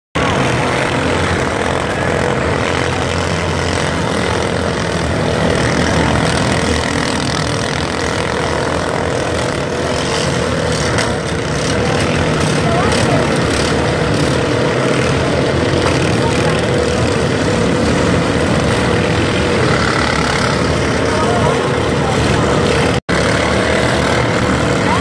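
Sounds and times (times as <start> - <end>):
lawn mower engines droning: 0.2 - 25.0.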